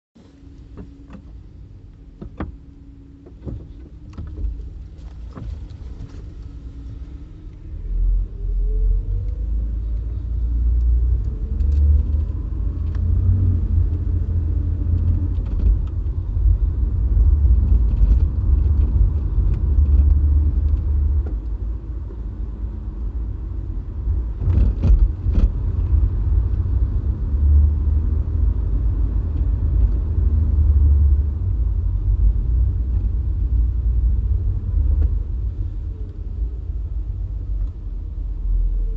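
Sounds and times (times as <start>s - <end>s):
car engine and road noise: 0.2s - 38.9s.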